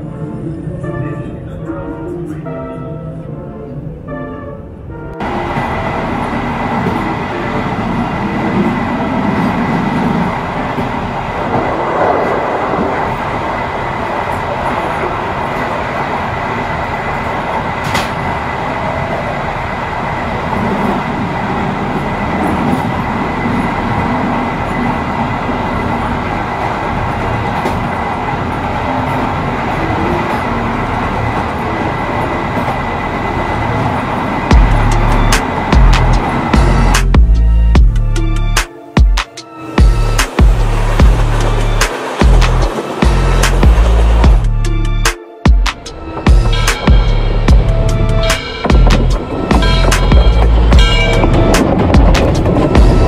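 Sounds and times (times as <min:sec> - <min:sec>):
train rumbling over rails: 0:00.0 - 0:53.0.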